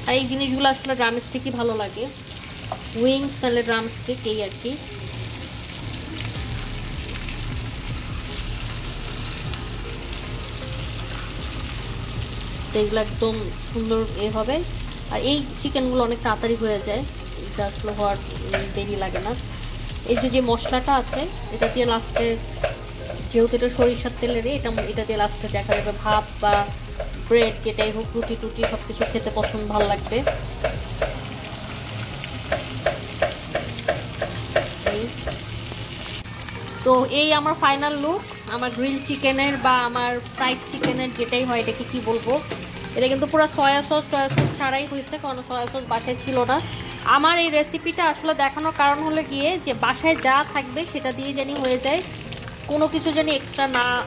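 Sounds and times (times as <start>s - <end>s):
chicken sizzling in a pan: 0.0s - 54.0s.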